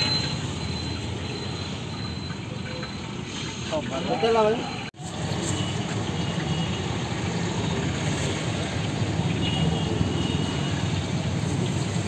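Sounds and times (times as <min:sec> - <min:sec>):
roadside traffic rumble: 0:00.0 - 0:12.0.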